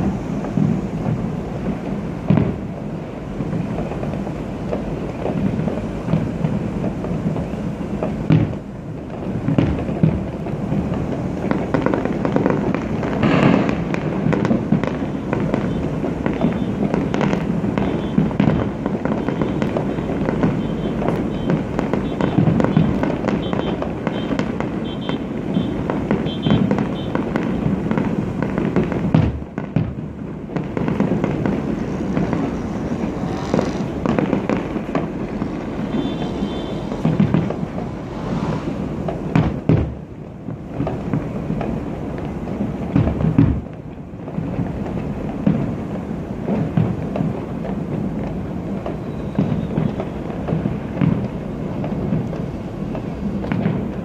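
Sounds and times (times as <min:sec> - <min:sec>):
fireworks bangs and crackles: 0:00.0 - 0:54.0
loud firework bangs: 0:00.0 - 0:54.0.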